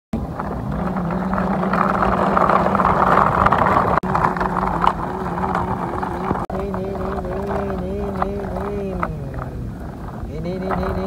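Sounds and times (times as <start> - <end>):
vehicle engine humming: 0.1 - 11.0.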